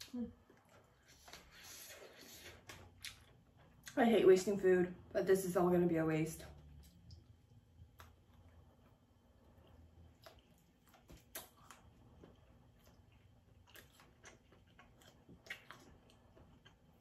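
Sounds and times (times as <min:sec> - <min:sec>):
faint chewing: 0:00.0 - 0:04.0, 0:06.4 - 0:17.0.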